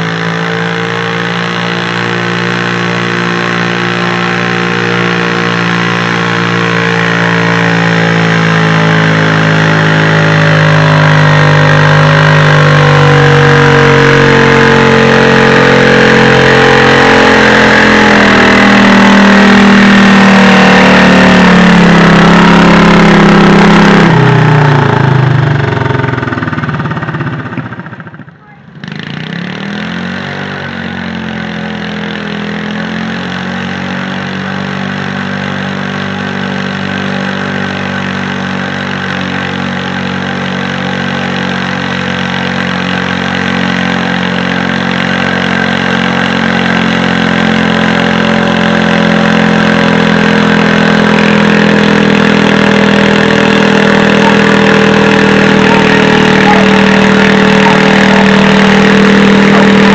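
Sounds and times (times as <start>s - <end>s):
tractor engine at high revs: 0.0s - 59.9s.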